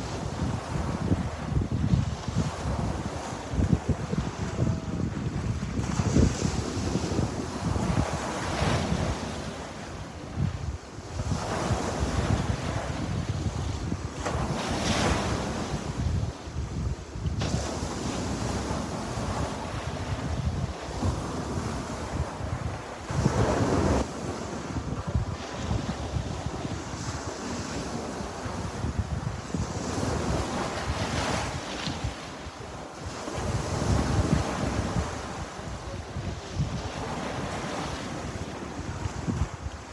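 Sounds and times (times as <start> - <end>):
sea waves breaking on shore: 0.0 - 39.9
wind rumble on microphone: 0.0 - 39.9.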